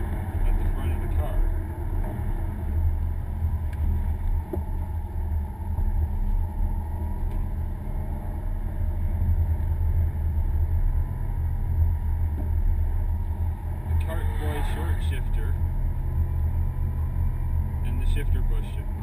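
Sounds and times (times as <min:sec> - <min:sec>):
car engine running: 0:00.0 - 0:19.0
tyre and road noise: 0:00.0 - 0:19.0.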